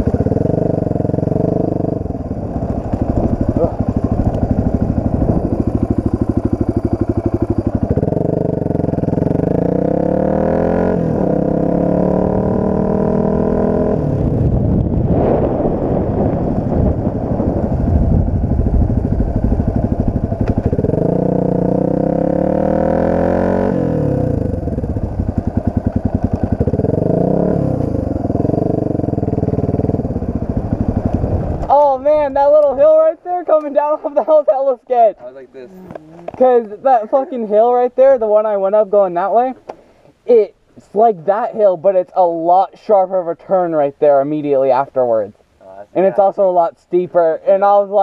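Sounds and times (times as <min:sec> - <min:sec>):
dirt bike engine accelerating: 0:00.0 - 0:38.9.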